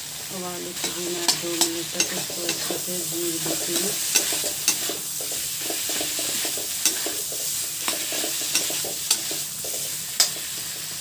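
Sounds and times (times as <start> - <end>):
potatoes sizzling in a pan: 0.0 - 11.0
spatula stirring and scraping: 0.8 - 10.8.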